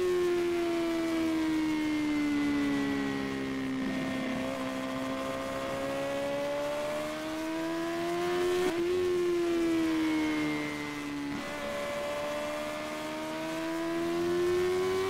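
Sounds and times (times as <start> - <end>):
motorcycle engine at high revs: 2.4 - 15.0.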